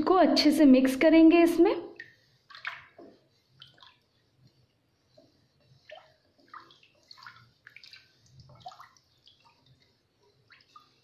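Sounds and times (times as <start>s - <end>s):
spatula stirring and scraping gravy: 2.0s - 11.0s.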